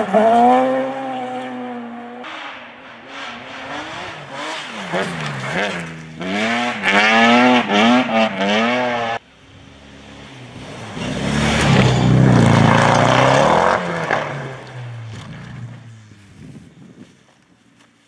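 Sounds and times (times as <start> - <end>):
rally car engine revving: 0.0 - 16.0
rally car passing at full throttle: 0.0 - 16.5.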